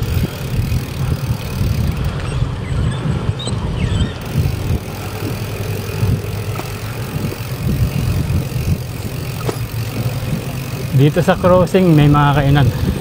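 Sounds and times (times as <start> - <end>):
bicycle tyre and road noise: 0.0 - 13.0
wind on microphone: 0.0 - 13.0.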